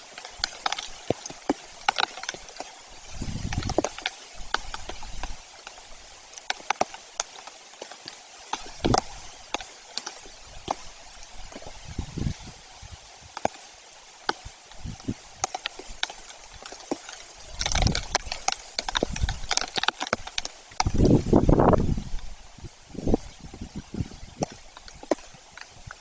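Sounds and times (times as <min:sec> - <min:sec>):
heavy raindrops tapping: 0:00.0 - 0:12.4, 0:13.3 - 0:22.4, 0:23.0 - 0:26.0
steady rain patter: 0:00.0 - 0:26.0.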